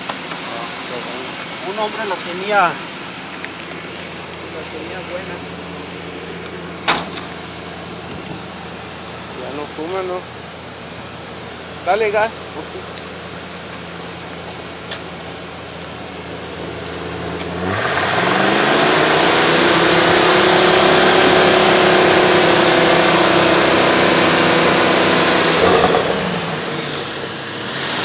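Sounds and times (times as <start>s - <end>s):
pickup engine idling and revving: 0.0s - 28.0s.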